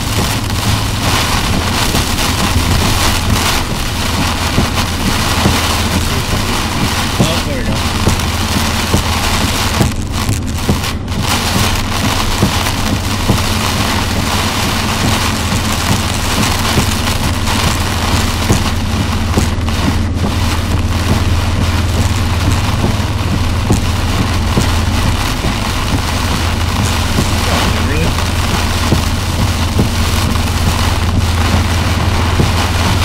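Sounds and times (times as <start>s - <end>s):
engine and tyre drone: 0.0s - 33.0s
heavy rain on car: 0.0s - 33.0s.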